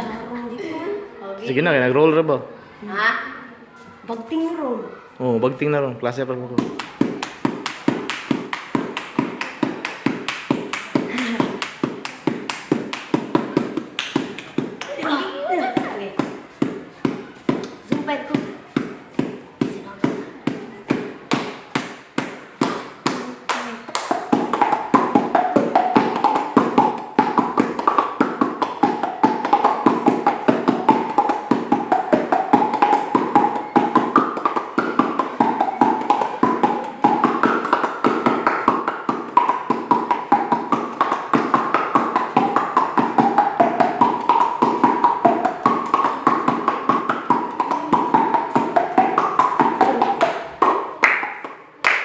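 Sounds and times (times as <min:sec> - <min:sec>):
fast tapping beat: 0:06.6 - 0:23.2, 0:23.9 - 0:51.3.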